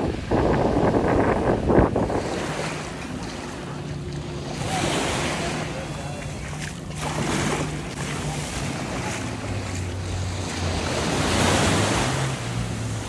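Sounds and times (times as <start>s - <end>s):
waves washing on beach: 0.0s - 13.0s
wind on microphone: 0.0s - 13.0s.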